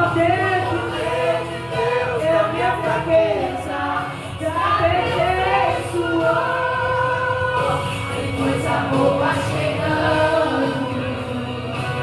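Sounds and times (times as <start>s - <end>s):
woman singing gospel song: 0.0s - 12.0s.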